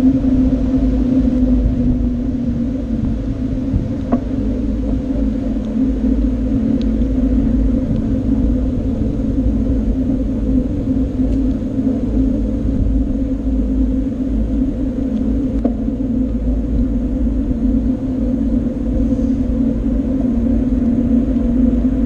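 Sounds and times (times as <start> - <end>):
steady low hum: 0.0 - 22.0
wind rumbling on microphone: 0.0 - 22.0.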